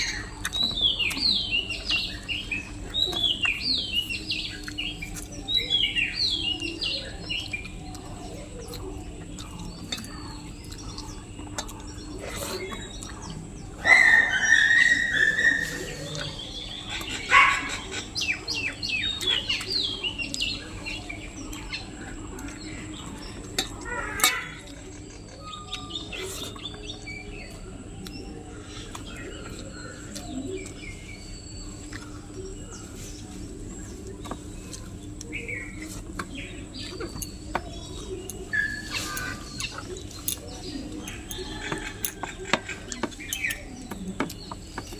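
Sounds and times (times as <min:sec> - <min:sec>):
birds chirping: 0:00.0 - 0:44.9
steady background noise: 0:00.0 - 0:44.9.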